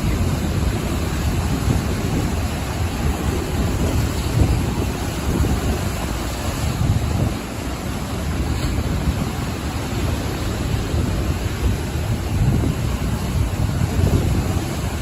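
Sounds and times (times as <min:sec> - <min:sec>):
ocean waves breaking on shore: 0:00.0 - 0:15.0
wind buffeting microphone: 0:00.0 - 0:15.0.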